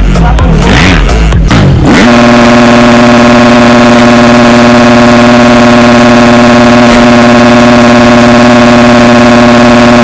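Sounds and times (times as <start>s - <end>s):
dirt bike engine revving: 0.5s - 10.0s.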